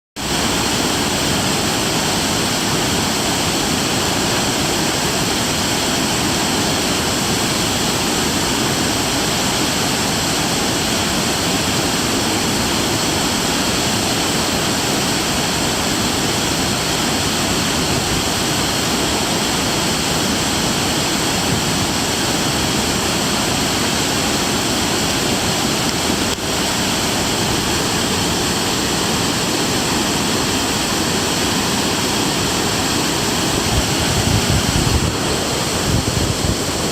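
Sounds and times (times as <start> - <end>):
waterfall rushing: 0.2 - 36.9.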